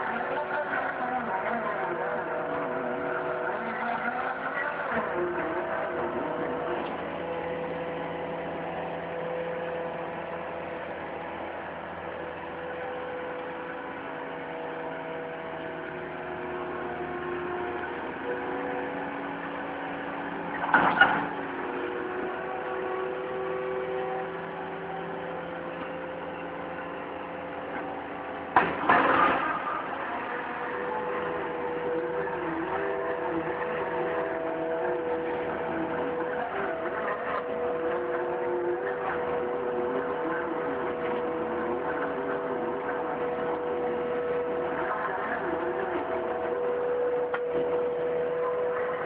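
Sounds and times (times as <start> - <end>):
loader engine and hydraulics whine: 0.0 - 49.0.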